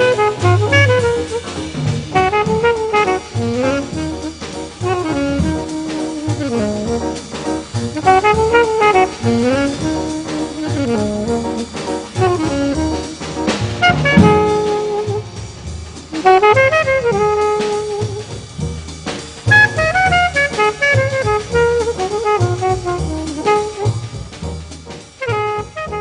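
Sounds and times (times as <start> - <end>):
drum kit beat: 0.0 - 26.0
saxophone melody: 0.0 - 26.0.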